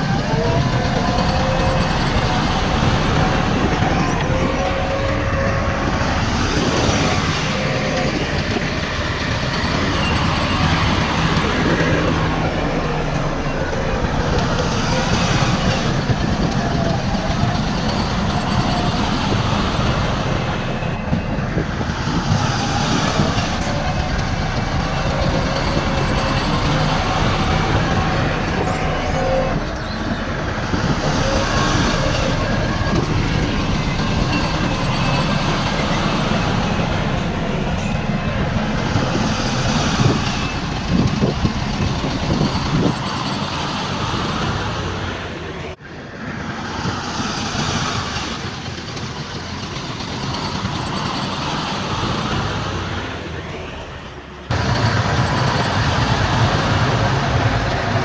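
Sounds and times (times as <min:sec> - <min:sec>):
heavy machinery diesel engine rattling: 0:00.0 - 0:58.0.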